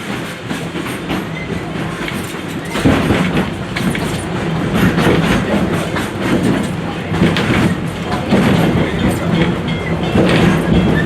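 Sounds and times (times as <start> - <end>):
train wheels clattering on track: 0.0 - 11.0.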